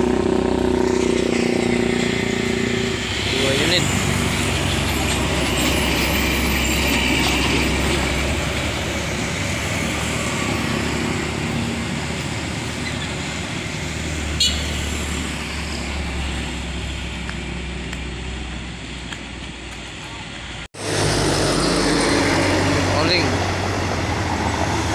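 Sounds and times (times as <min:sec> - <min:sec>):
heavy truck engines droning: 0:00.0 - 0:24.9
tyre and road noise: 0:00.0 - 0:24.9.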